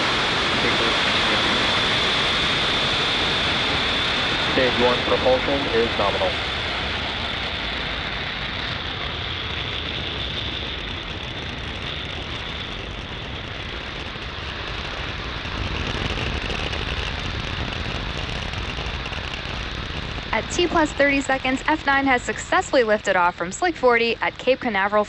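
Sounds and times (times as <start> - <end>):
rocket engines rumbling: 0.0 - 25.0.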